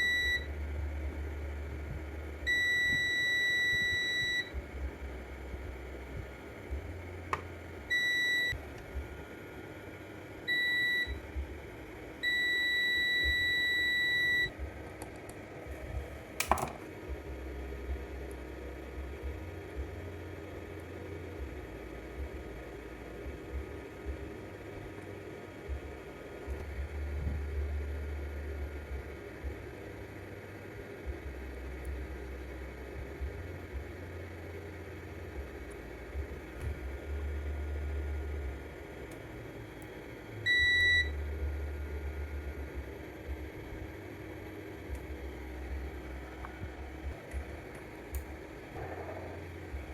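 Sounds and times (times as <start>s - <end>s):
low background hum: 0.0s - 49.9s.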